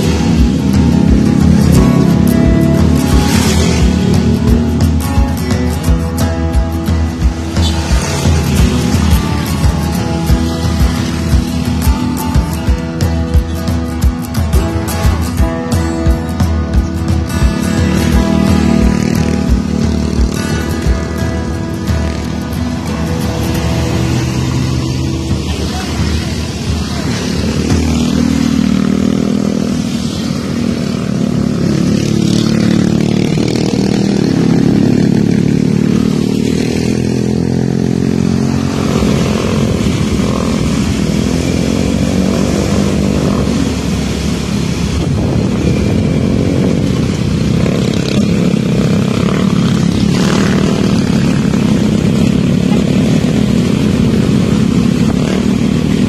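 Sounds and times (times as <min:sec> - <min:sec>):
motor scooter engines: 0:00.0 - 0:56.0.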